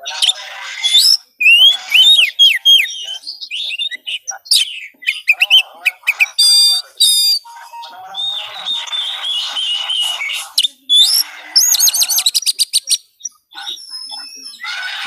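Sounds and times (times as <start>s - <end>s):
bird singing varied song: 0.0s - 14.9s.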